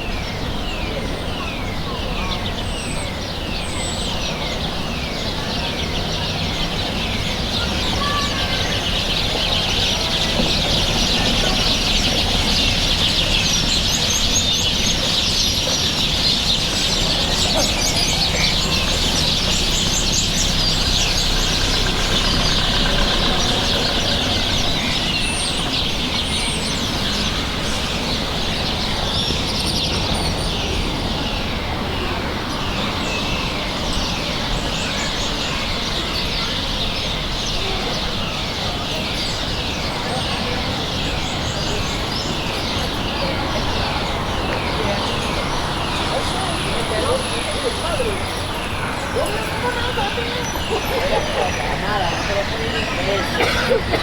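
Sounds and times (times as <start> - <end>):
flock of birds chirping: 0.0 - 54.0.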